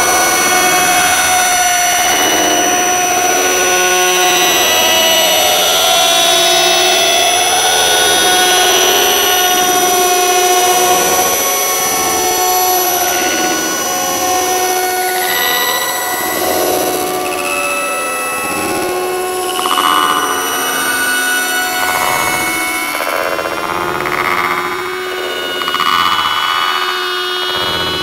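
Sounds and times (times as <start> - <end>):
wavering drone of held tones: 0.0 - 28.0.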